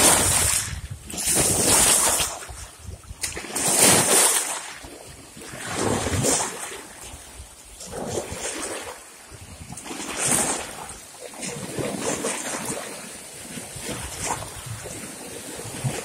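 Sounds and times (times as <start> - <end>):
small waves splashing on rocks: 0.0 - 16.0.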